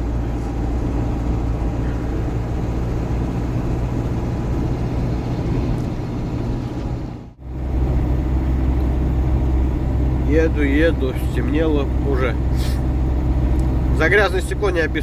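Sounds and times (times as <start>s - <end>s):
road noise inside cab: 0.0s - 15.0s
truck diesel engine drone: 0.0s - 15.0s.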